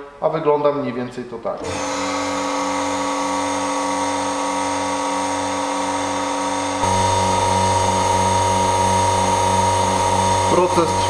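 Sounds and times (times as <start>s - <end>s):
electric pump whining and pulsing: 1.6s - 11.0s.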